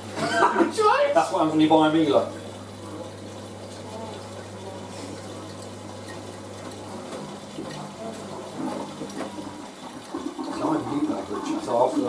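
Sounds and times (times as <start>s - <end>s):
washing machine humming: 0.0s - 12.0s
water running into washing machine: 0.0s - 12.0s.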